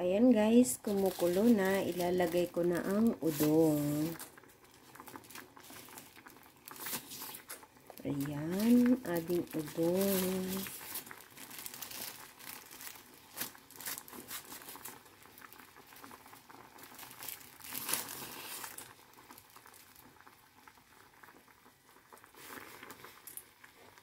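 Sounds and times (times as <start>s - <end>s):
soft crackles: 0.0s - 24.0s
broth bubbling in a saucepan: 0.3s - 24.0s.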